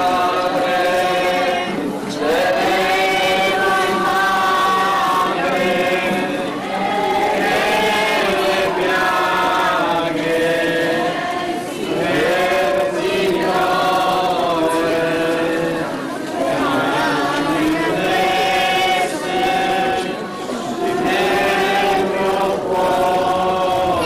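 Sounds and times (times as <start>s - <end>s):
group singing slow chant: 0.0s - 24.0s.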